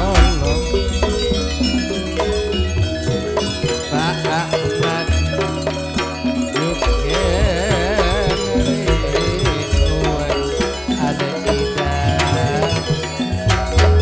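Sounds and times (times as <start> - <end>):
low bass: 0.0 - 14.0
percussion strikes: 0.0 - 14.0
wavering folk melody: 0.0 - 14.0.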